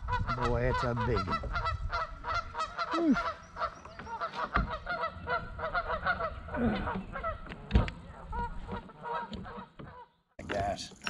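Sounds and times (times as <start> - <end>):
geese honking: 0.0 - 10.2.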